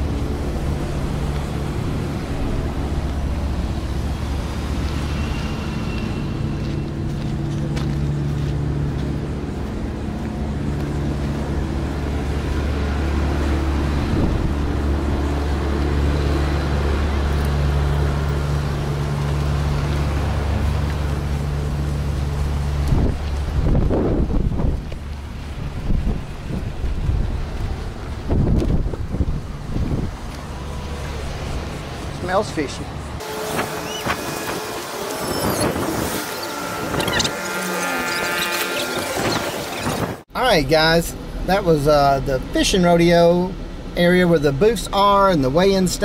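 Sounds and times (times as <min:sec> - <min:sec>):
engine running: 0:00.0 - 0:46.0
road traffic passing: 0:00.0 - 0:46.0.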